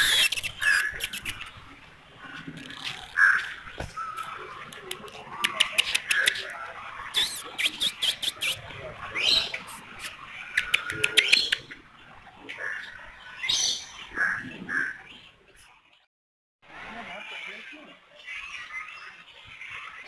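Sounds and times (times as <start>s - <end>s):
birds chirping and squawking: 0.0s - 15.7s, 17.1s - 20.0s.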